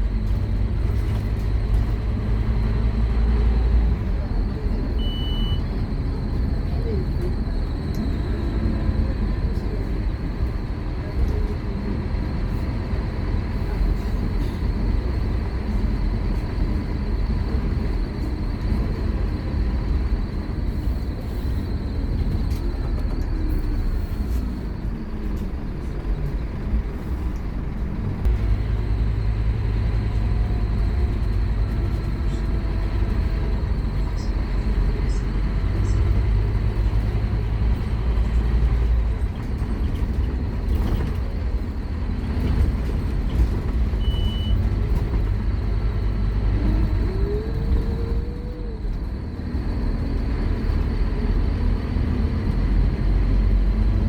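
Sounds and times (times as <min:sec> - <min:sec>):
bus engine rumble: 0:00.0 - 0:54.0
road noise: 0:00.0 - 0:54.0.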